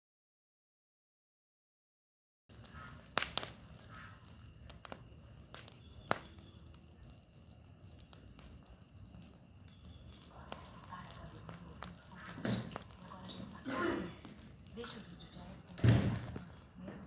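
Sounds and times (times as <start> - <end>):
bonfire crackling: 2.5 - 17.0.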